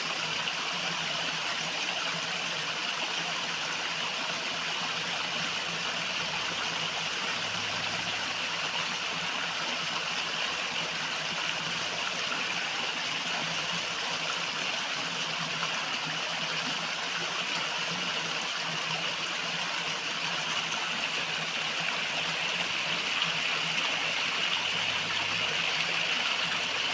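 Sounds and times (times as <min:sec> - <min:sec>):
river water flowing: 0:00.4 - 0:26.9.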